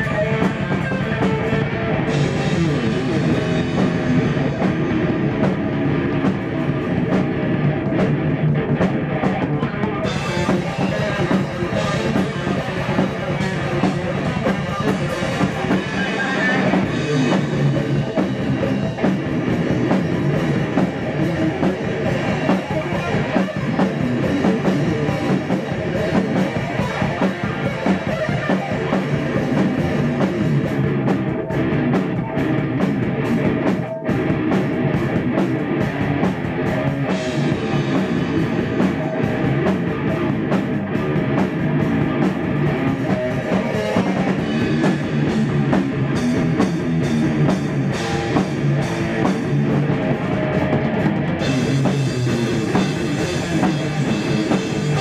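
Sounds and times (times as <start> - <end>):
drum kit playing: 0.0 - 55.0
electric guitar: 0.0 - 55.0.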